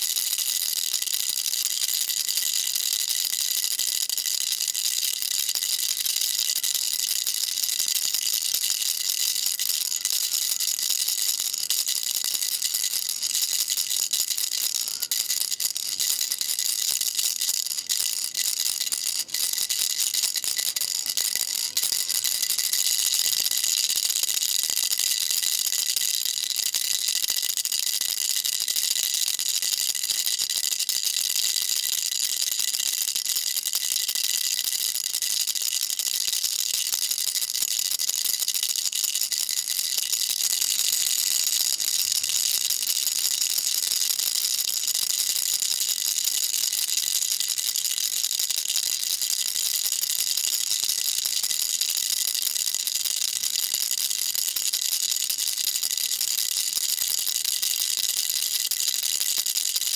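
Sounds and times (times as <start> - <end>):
baby rattle shaking: 0.0 - 30.8, 33.4 - 59.9.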